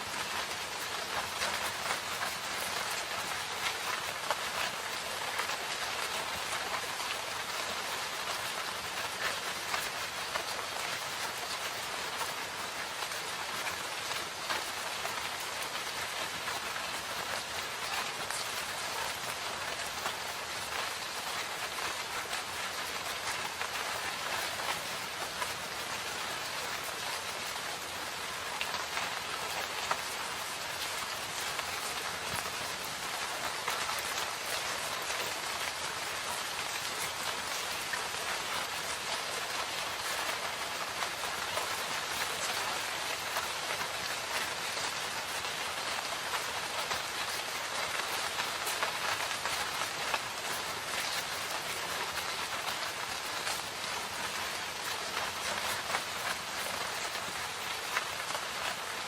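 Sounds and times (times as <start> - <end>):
rain falling in forest: 0.0 - 59.0.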